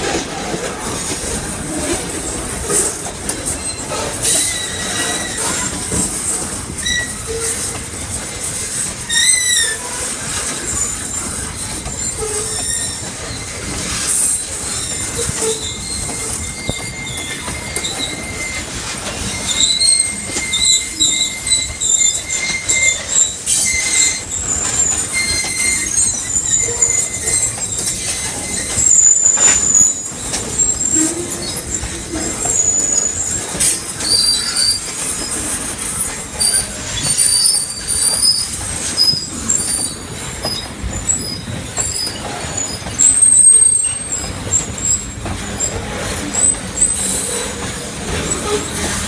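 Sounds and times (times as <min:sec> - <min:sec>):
train rumble and clatter: 0:00.0 - 0:49.0
train wheels squealing on rails: 0:00.0 - 0:49.0.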